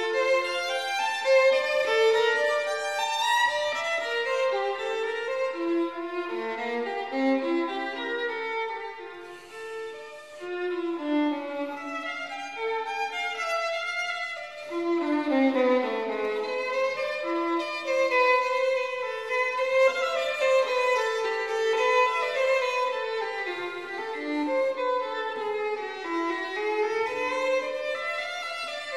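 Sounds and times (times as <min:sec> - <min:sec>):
violin melody: 0:00.0 - 0:28.9.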